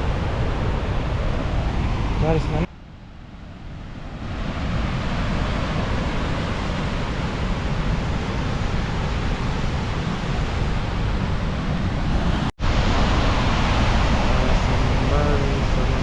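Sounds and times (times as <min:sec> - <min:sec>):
waterfall roaring: 0:00.0 - 0:02.7, 0:04.4 - 0:16.0
wind buffeting microphone: 0:00.0 - 0:16.0.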